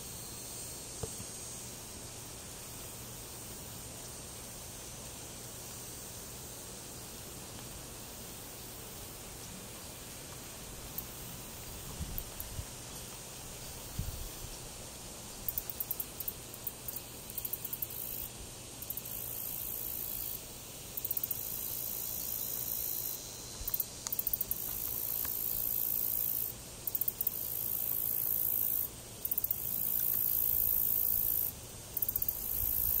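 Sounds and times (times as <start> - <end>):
high-pitched insect song: 0.0 - 33.0.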